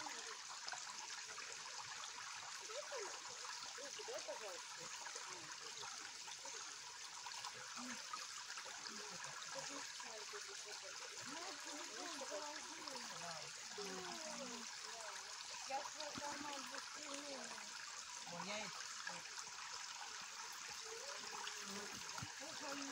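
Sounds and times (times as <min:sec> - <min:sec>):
stream trickling over stones: 0:00.0 - 0:22.9.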